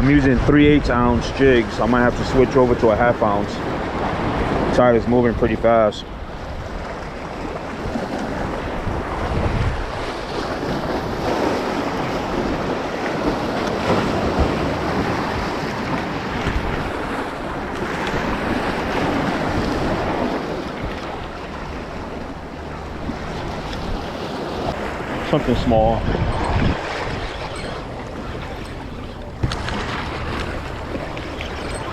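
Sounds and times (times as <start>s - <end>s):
surf washing in: 0.0s - 31.9s
wind buffeting microphone: 0.0s - 31.9s.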